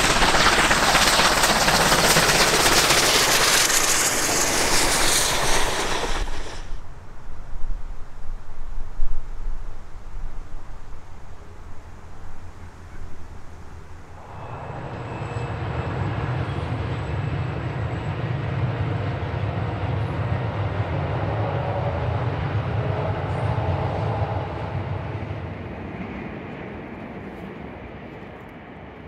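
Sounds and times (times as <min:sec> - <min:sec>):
diesel locomotives passing: 0:00.0 - 0:07.5, 0:11.0 - 0:29.0.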